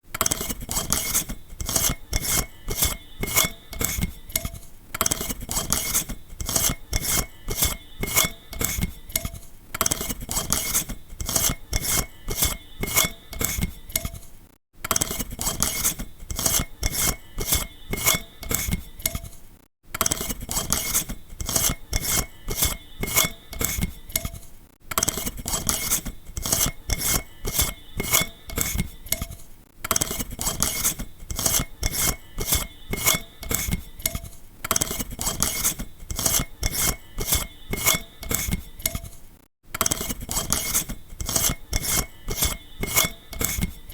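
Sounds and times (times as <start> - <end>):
light bulb scraping in socket: 0.1 - 43.9.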